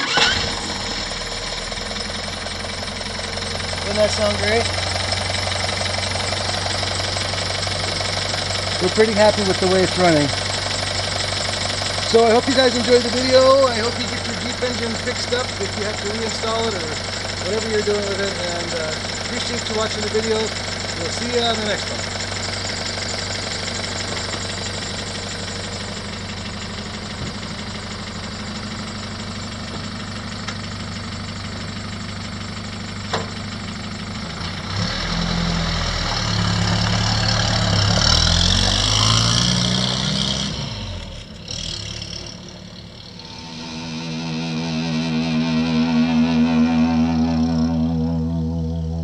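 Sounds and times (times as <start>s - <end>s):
engine idling and revving: 0.0s - 49.0s.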